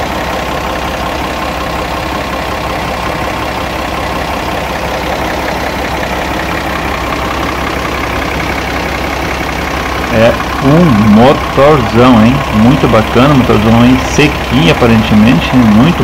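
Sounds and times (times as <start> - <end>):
diesel bus engine idling: 0.0 - 16.0.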